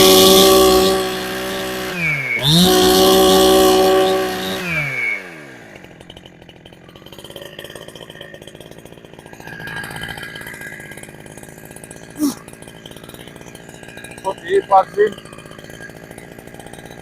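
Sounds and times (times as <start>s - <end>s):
chainsaw revving and idling: 0.0s - 17.0s.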